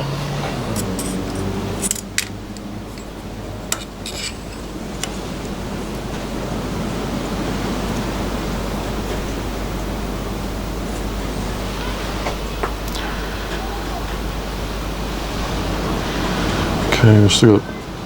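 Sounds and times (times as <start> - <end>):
milling machine cutting metal: 0.0 - 15.6.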